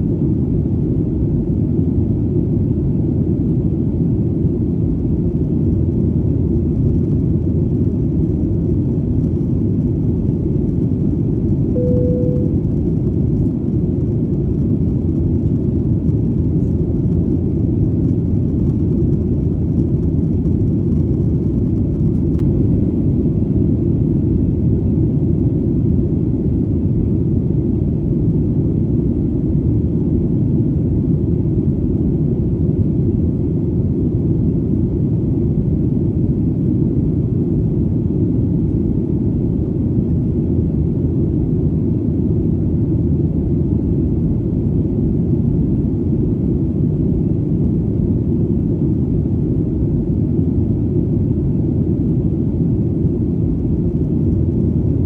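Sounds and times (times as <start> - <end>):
airplane drone in flight: 0.0 - 55.0.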